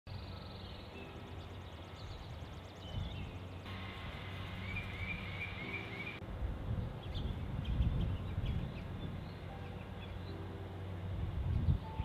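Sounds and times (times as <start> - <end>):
songbird chirps: 0.1 - 12.0.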